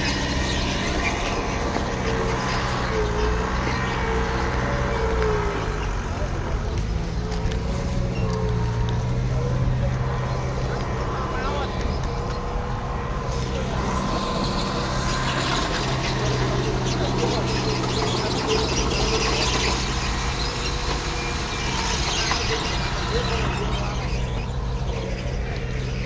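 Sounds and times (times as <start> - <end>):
heavy machinery diesel engine: 0.0 - 26.0.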